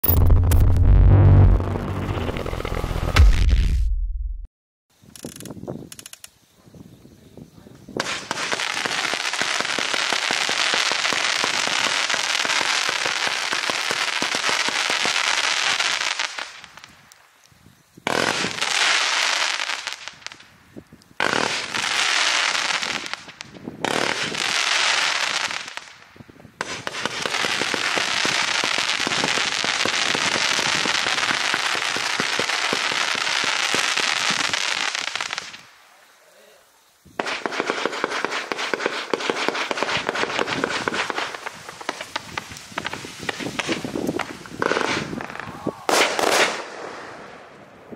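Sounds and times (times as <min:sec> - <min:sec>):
fireworks bangs and crackle: 0:07.9 - 0:35.8, 0:37.1 - 0:47.9.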